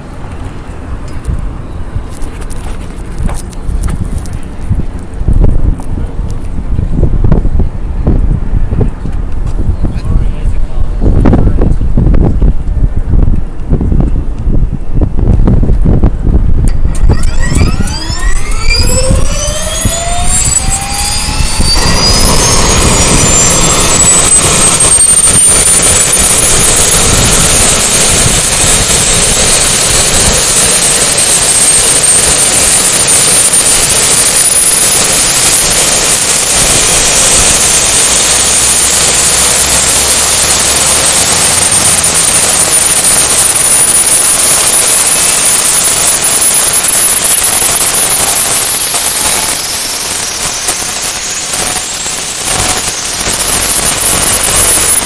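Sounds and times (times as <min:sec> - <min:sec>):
helicopter engine roar: 0:00.0 - 0:55.0
helicopter turbine whine: 0:00.0 - 0:55.0.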